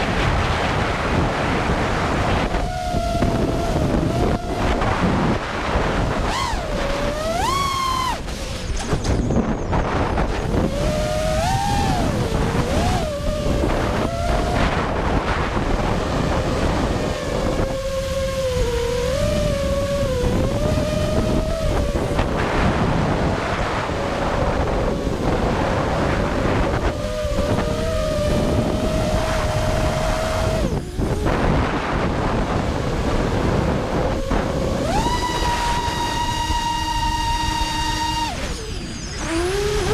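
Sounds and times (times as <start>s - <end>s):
drone motors whining: 0.0s - 39.9s
wind buffeting microphone: 0.0s - 39.9s.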